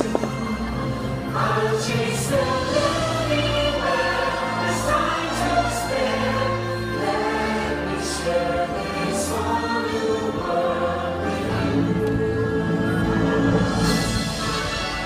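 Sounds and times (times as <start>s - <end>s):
choir singing over music: 0.0s - 15.0s.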